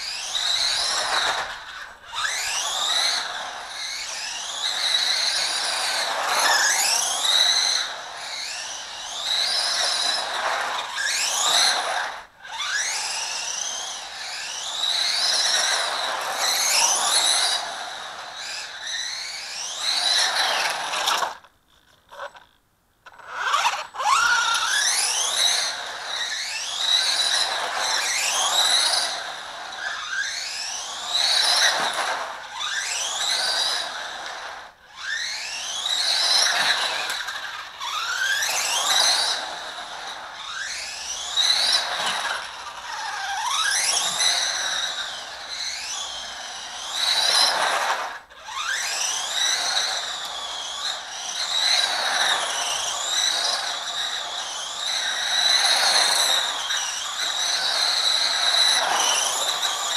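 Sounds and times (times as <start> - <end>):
rc car motor whining: 0.0 - 59.9.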